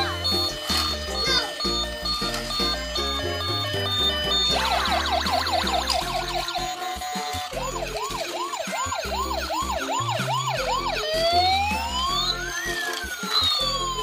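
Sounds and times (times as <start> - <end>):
electronic toy siren wailing: 0.0 - 14.0
simple electronic tune: 0.0 - 14.0.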